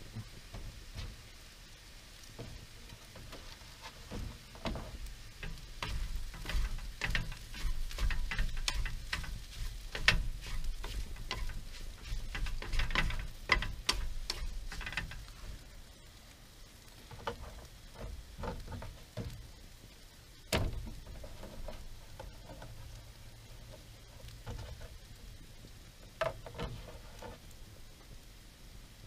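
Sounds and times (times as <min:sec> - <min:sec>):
wooden spatula scraping frying pan: 0:00.0 - 0:01.5, 0:02.2 - 0:15.8, 0:16.8 - 0:19.5, 0:20.6 - 0:25.1, 0:26.1 - 0:27.5
food sizzling: 0:00.0 - 0:29.0.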